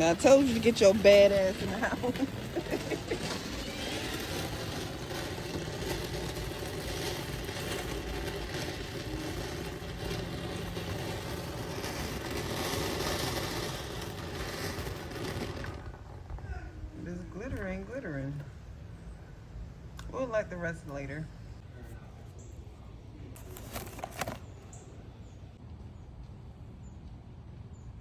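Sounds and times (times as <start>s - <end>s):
ground fountain firework hissing: 0.0s - 22.7s.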